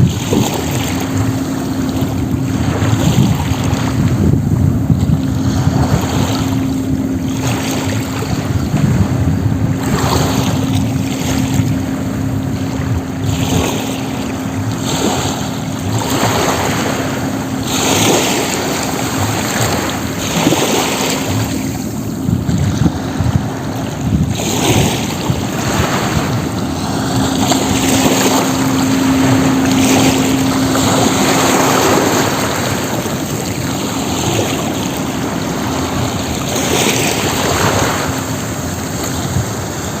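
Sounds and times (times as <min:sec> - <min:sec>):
sea waves splashing: 0:00.0 - 0:40.0
steady low hum: 0:00.0 - 0:40.0.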